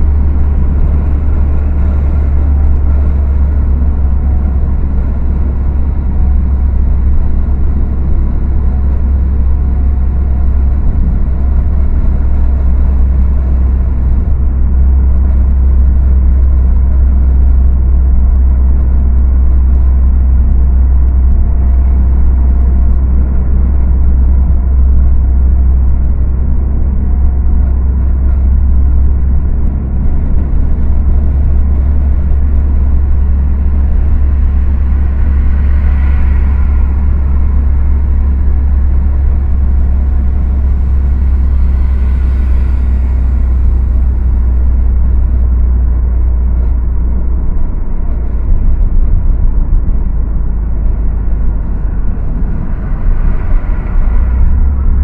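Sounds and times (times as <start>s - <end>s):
car driving at speed: 0.0s - 55.0s.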